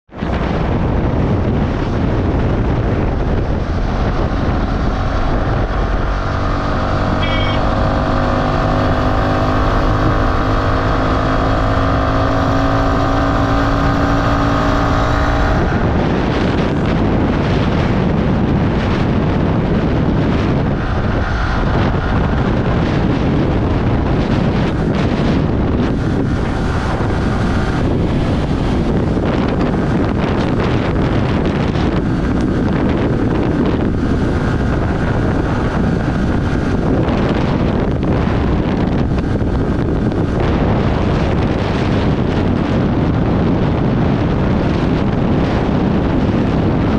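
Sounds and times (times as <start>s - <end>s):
wind rushing over microphone: 0.0s - 46.9s
motorcycle engine accelerating: 0.2s - 46.9s.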